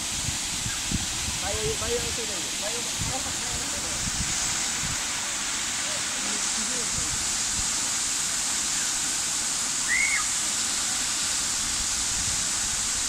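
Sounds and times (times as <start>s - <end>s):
waterfall rushing into pool: 0.0s - 13.0s.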